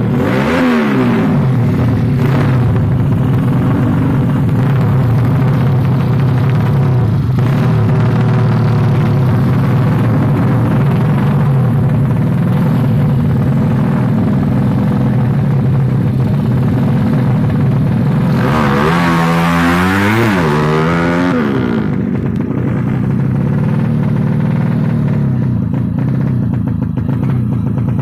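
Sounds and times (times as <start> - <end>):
motorcycle engine revving: 0.0 - 28.0
motorcycle engines running: 0.0 - 28.0.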